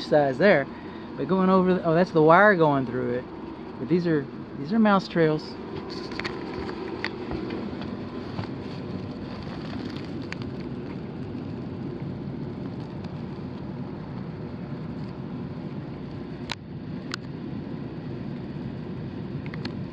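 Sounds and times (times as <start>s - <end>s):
steady low rumbling: 0.0s - 19.9s.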